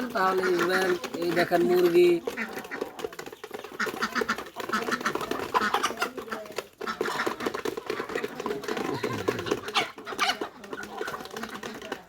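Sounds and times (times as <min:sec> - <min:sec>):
ducks and chickens calling: 0:00.0 - 0:12.0.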